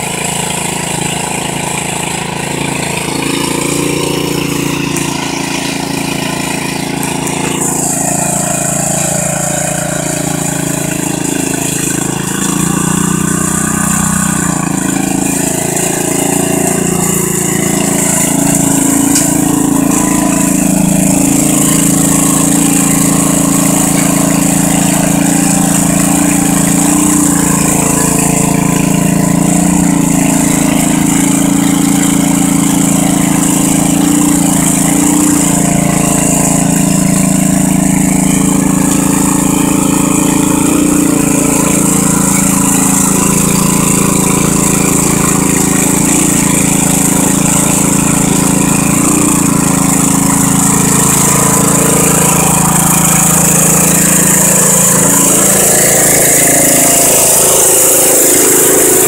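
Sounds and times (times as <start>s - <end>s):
riding lawn mower engine running: 0.0s - 59.0s.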